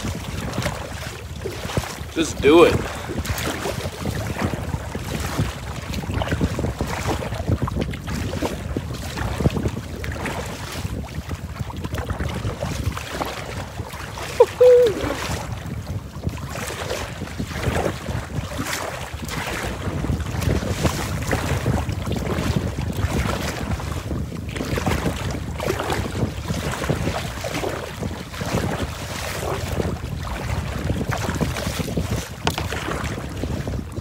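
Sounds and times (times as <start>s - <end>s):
waves slapping kayak hull: 0.0s - 34.0s
wind buffeting microphone: 0.0s - 34.0s.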